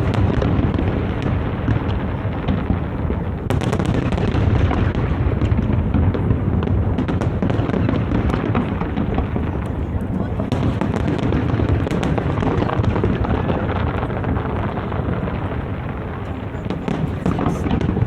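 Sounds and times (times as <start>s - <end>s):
crackling firework shells: 0.0s - 18.0s
fireworks booming: 0.0s - 18.0s.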